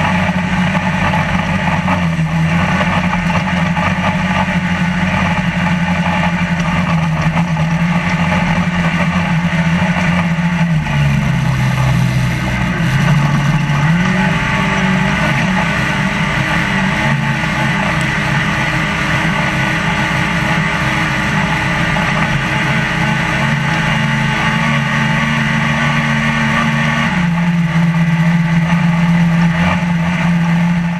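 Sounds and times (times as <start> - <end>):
truck engine heard from inside cab: 0.0 - 30.9.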